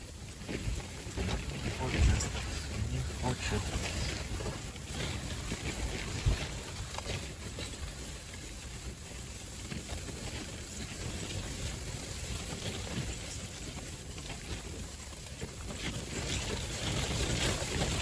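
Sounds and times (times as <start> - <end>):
faint crackles: 0.0 - 18.0.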